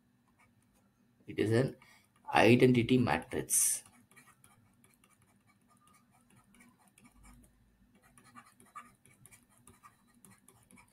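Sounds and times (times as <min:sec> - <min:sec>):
stylus scratching on tablet screen: 0:00.2 - 0:10.9.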